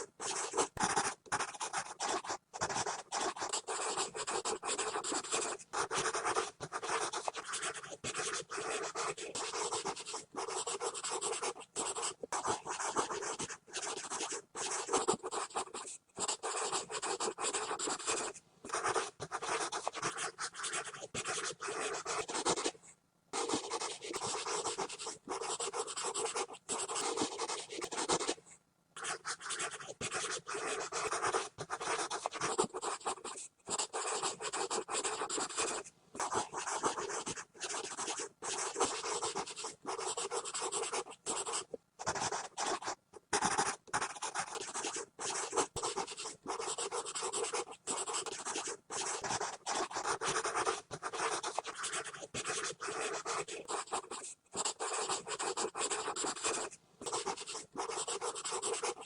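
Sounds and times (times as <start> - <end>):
pencil scribbling on paper: 0.0 - 22.8, 23.4 - 28.4, 29.0 - 59.0.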